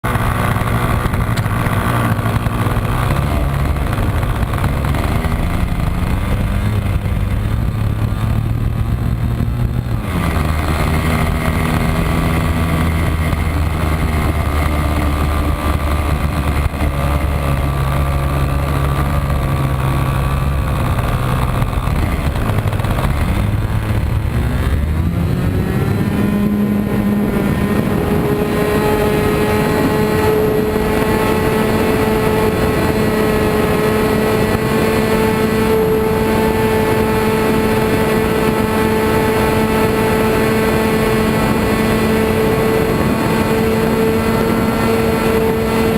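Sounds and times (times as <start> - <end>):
model airplane engine running: 0.0 - 45.9.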